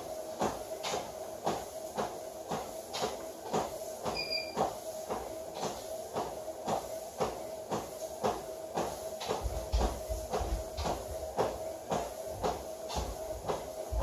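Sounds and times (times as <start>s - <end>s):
treadmill motor whine: 0.0s - 14.0s
footfalls on treadmill belt: 0.3s - 14.0s.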